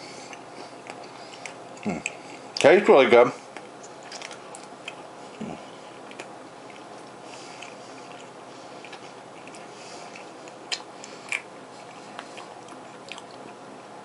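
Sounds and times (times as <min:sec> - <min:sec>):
faint chewing: 0:00.0 - 0:02.7, 0:03.4 - 0:13.6.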